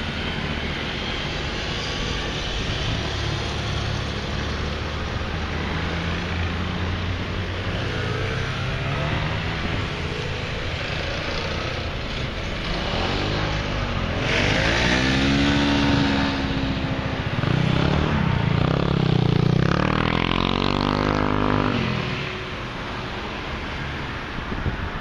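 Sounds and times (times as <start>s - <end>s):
motor scooters riding past: 0.0s - 24.0s.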